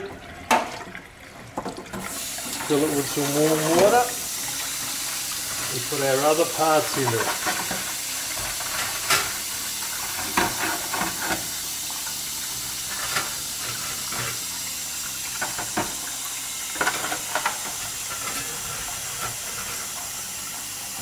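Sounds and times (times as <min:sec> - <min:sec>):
tap water running into bowl: 0:00.0 - 0:21.0.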